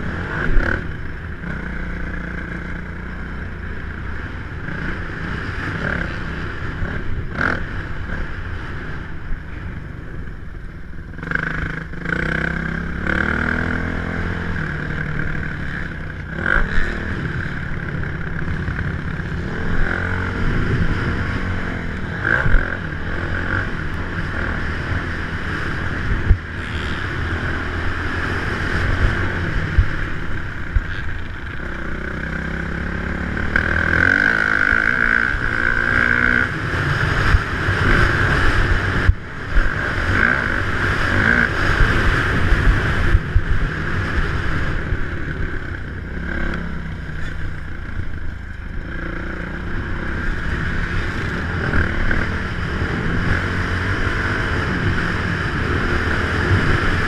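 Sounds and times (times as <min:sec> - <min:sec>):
dirt bike engine revving: 0:00.0 - 0:09.2, 0:11.1 - 0:57.0.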